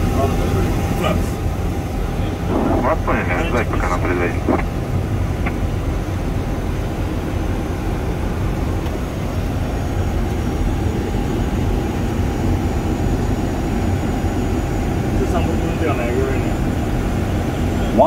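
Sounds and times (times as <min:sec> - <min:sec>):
air and engine rumble in cockpit: 0:00.0 - 0:18.0.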